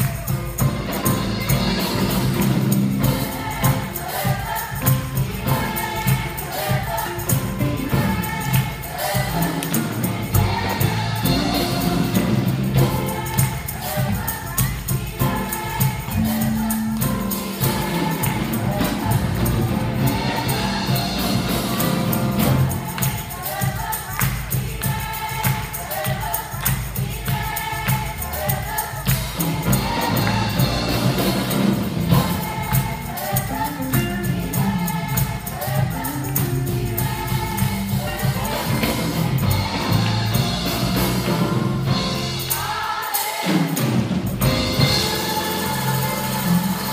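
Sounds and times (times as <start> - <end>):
band accompaniment: 0.0 - 46.9
choir singing worship song: 0.0 - 46.9
tambourine: 0.0 - 46.9.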